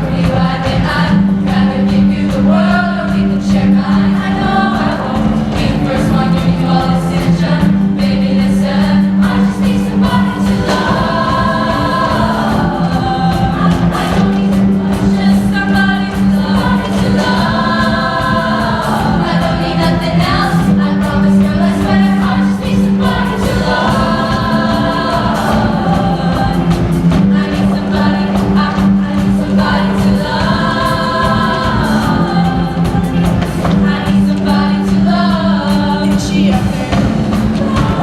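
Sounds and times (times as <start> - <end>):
choir singing in harmony: 0.0 - 38.0
low musical accompaniment: 0.0 - 38.0.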